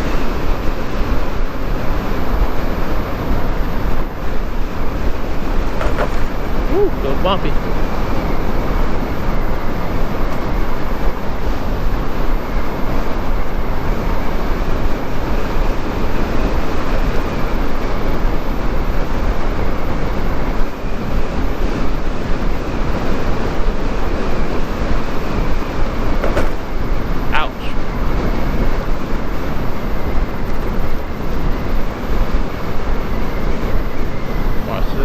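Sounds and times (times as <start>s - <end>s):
motorcycle road noise and rumble: 0.0s - 35.0s
wind rush: 0.0s - 35.0s.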